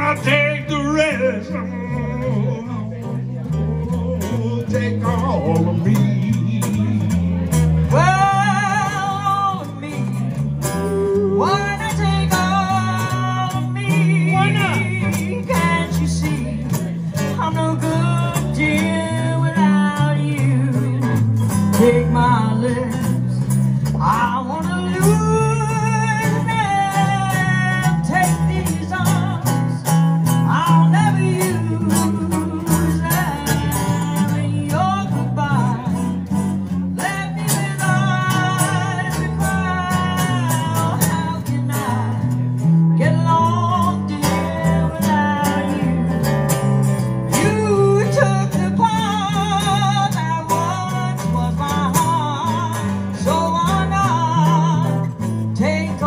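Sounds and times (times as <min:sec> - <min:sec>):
fretless electric bass: 0:00.0 - 0:56.0
strummed acoustic guitar: 0:00.0 - 0:56.0
woman singing: 0:03.7 - 0:56.0.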